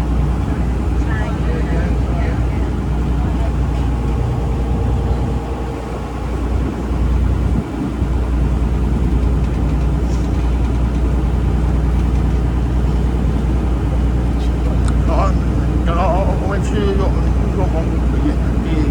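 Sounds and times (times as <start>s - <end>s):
boat engine droning: 0.0s - 18.9s.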